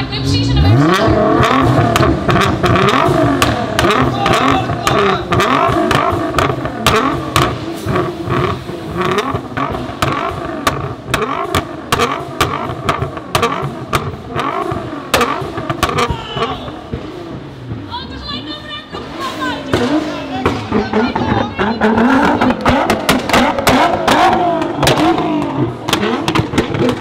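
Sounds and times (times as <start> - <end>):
car engine revving: 0.0 - 27.0
exhaust pops and bangs: 0.4 - 27.0.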